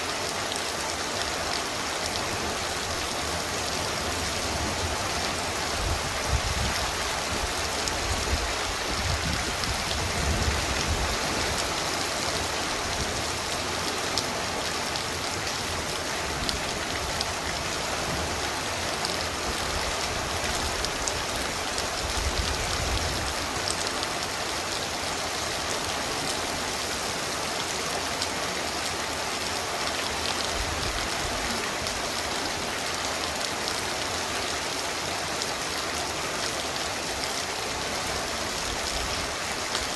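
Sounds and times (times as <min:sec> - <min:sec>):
torrential rain pouring: 0:00.0 - 0:39.9.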